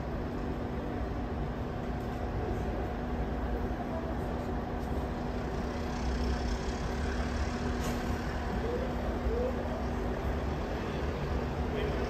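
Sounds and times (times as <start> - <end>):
constant hum: 0.0 - 12.0
idling train rumble: 0.0 - 12.0.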